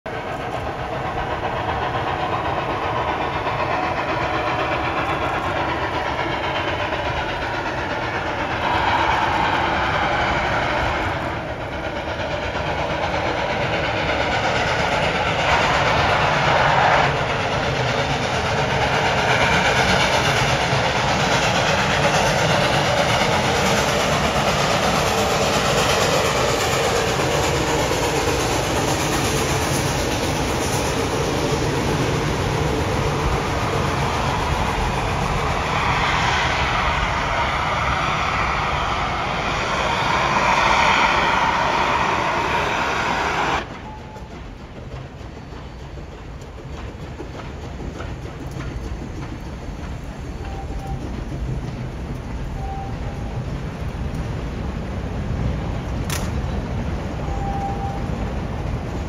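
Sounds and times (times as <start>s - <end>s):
steam locomotive exhaust: 0.1s - 59.0s.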